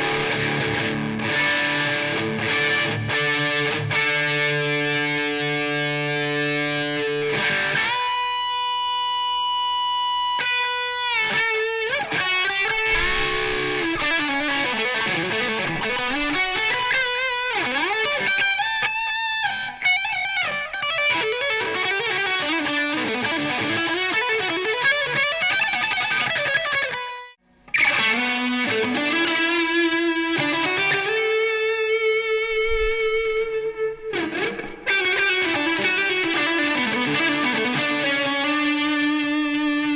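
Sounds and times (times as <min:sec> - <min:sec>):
electric guitar lead with overdrive: 0:00.0 - 0:39.9.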